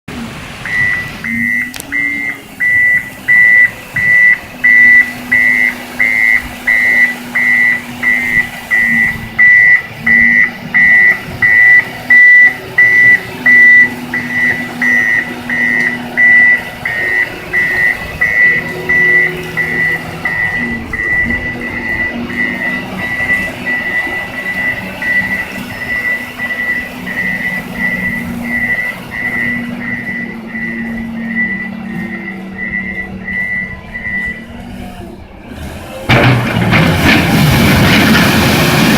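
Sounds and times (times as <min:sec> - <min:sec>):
low engine drone: 0:00.1 - 0:38.9
reversing alarm beeping: 0:00.6 - 0:35.6.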